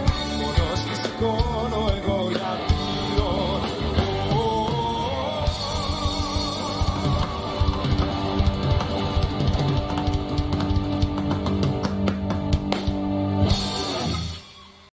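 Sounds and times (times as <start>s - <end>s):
drum kit: 0.0s - 14.5s
electric guitar: 0.0s - 14.9s.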